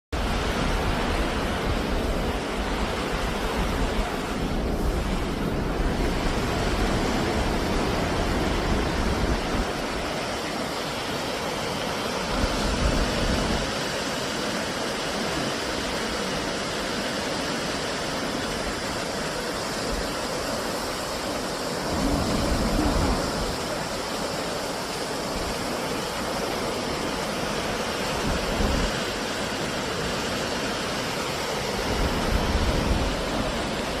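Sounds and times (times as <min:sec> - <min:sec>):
waterfall rushing: 0:00.2 - 0:34.0
wind buffeting microphone: 0:00.2 - 0:34.0.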